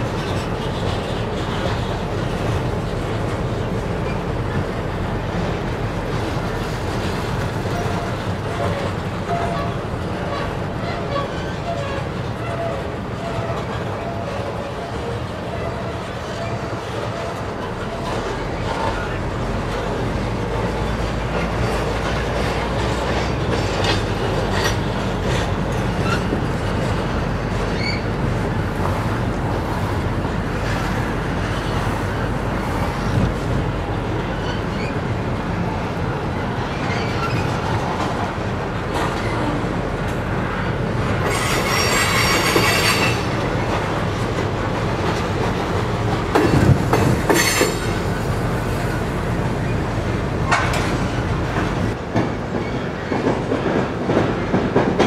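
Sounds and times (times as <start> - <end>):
train wheel squealing: 0.0 - 5.4, 6.0 - 29.9, 34.2 - 54.2
rail joint clacks: 0.0 - 55.0
train wheels rumbling on steel bridge: 0.0 - 55.0.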